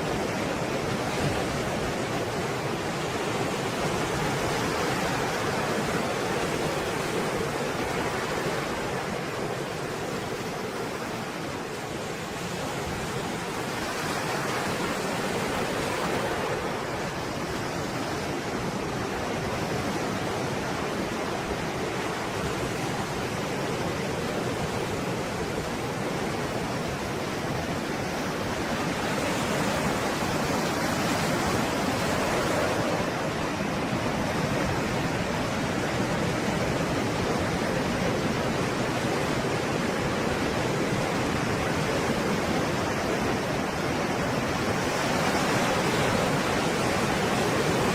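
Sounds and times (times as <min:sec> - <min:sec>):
stormy waves breaking: 0:00.0 - 0:47.9.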